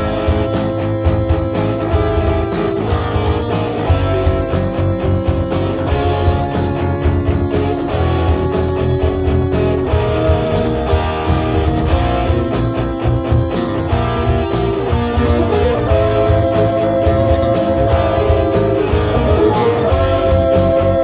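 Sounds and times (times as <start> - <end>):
bass: 0.0 - 21.0
electric guitar lead notes: 0.0 - 21.0
steady drum beat: 0.0 - 21.0.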